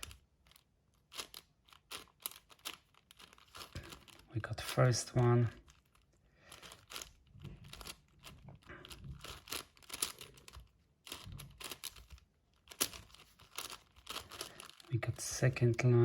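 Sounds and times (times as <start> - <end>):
plastic puzzle cube clicking: 0.0 - 4.2, 5.8 - 14.9.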